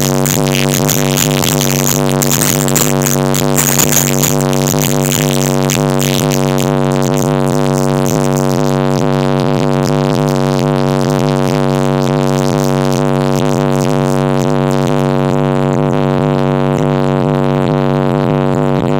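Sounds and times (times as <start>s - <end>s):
bass-heavy electronic music: 0.0s - 18.9s
distorted buzz: 0.0s - 18.9s.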